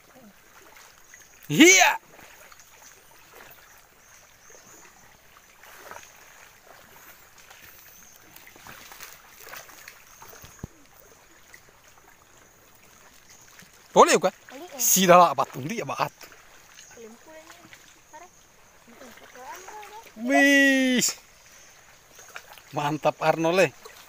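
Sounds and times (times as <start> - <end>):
shallow sea water lapping: 0.0 - 24.0
soft water disturbances: 0.0 - 24.0.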